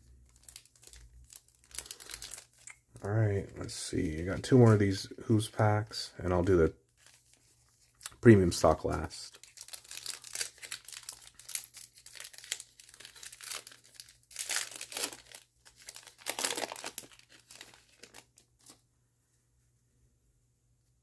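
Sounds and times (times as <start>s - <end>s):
foil wrapper crinkling and tearing: 0.0s - 5.0s, 6.2s - 18.8s.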